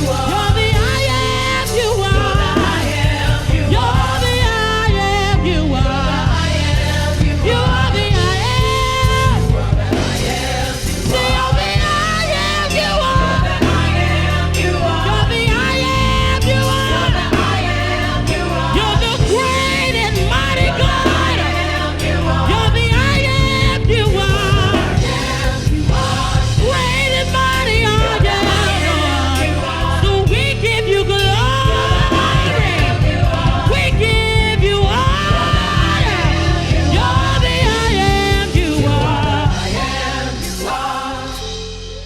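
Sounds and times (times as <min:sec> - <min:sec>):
gospel worship band playing: 0:00.0 - 0:42.0
steady bass: 0:00.0 - 0:42.0
voices singing sliding notes: 0:00.0 - 0:42.0.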